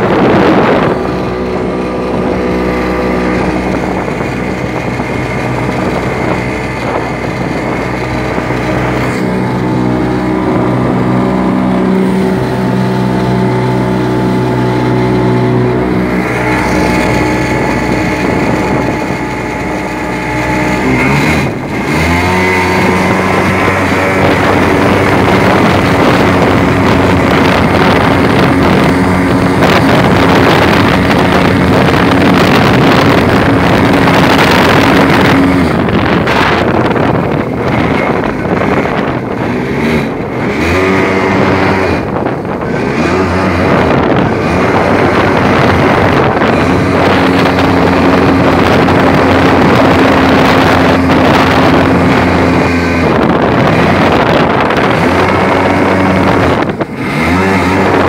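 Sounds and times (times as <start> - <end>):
jet ski engine: 0.0 - 58.0
rushing water: 0.0 - 58.0
wind noise: 0.0 - 58.0.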